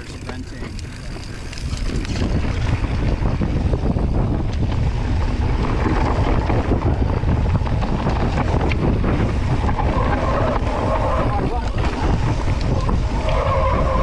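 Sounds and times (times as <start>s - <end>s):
bike clicks and rattles: 0.0s - 14.0s
bike tyres rumbling on dirt: 0.0s - 14.0s
wind buffeting microphone: 0.0s - 14.0s.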